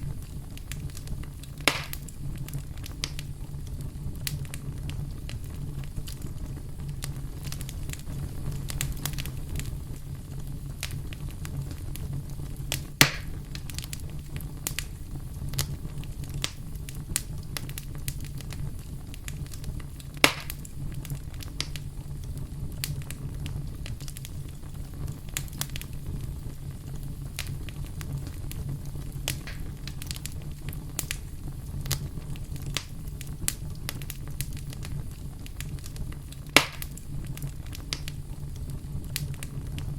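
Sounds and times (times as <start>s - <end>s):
campfire crackling: 0.0s - 39.9s
fire popping: 0.0s - 39.9s.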